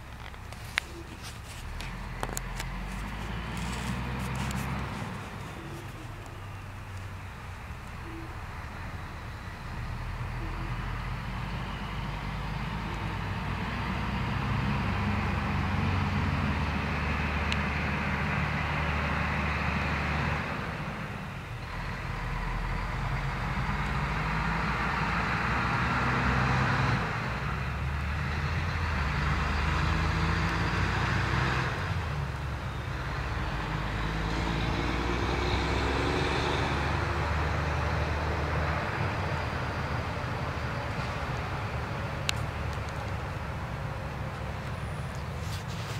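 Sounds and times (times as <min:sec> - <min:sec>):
low steady engine hum: 0:00.0 - 0:45.9
vehicles rushing past: 0:00.0 - 0:45.9.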